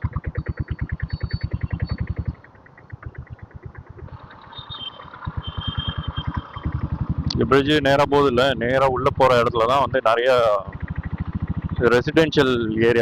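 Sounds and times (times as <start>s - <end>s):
single-cylinder engine exhaust beat: 0.0s - 13.0s.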